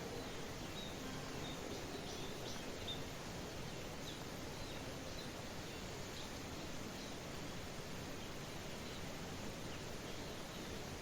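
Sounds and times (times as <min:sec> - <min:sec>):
light rain hiss: 0:00.0 - 0:11.0.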